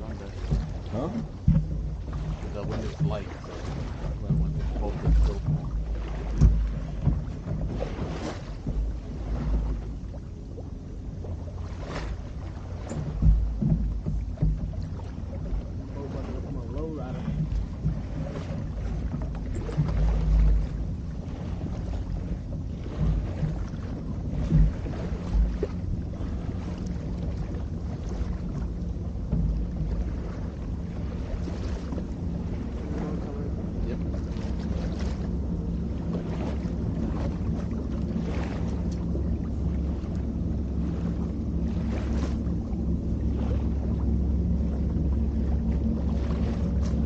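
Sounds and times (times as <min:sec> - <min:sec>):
boat motor running: 0:00.0 - 0:47.0
wind buffeting microphone: 0:00.0 - 0:47.0.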